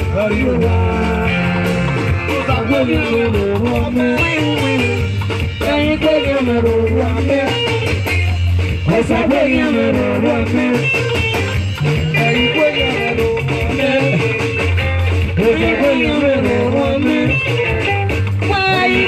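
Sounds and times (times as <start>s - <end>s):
bass line: 0.0s - 19.0s
drum beat: 0.0s - 19.0s
electric guitar: 0.0s - 19.0s.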